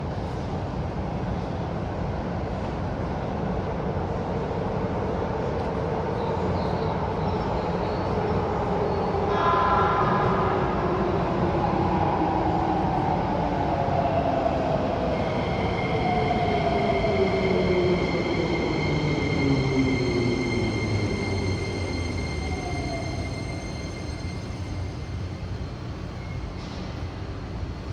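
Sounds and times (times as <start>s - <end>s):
rumble of train wheels: 0.0s - 27.9s.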